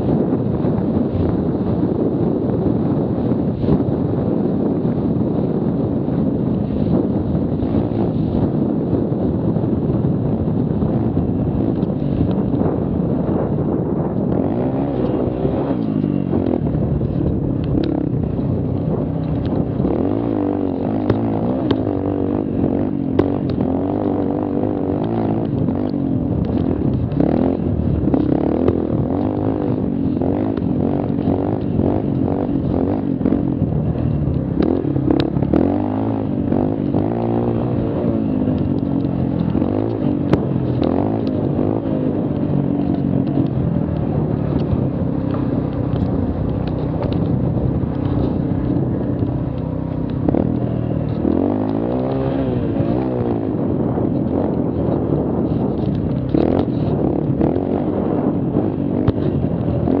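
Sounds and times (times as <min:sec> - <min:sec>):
mini quad engine revving: 0:10.8 - 1:00.0.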